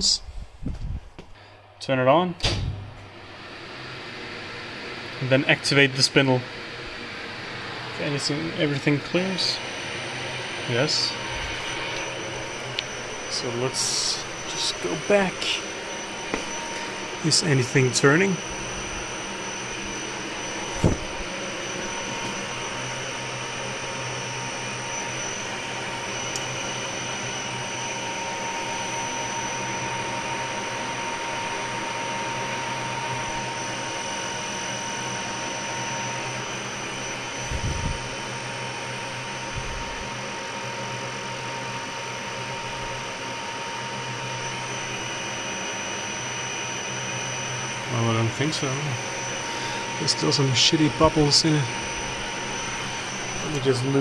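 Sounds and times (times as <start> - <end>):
milling machine humming: 1.4 - 54.0.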